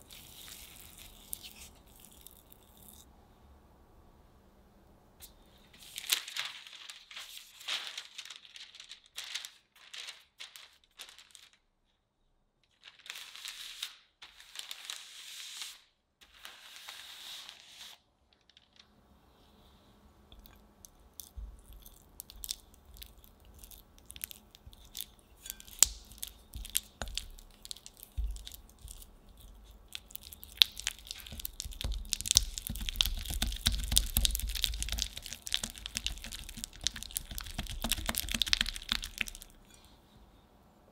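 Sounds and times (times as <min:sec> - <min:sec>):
parchment paper crinkling: 0:00.0 - 0:03.0, 0:05.2 - 0:11.7, 0:12.6 - 0:19.1, 0:20.3 - 0:39.8.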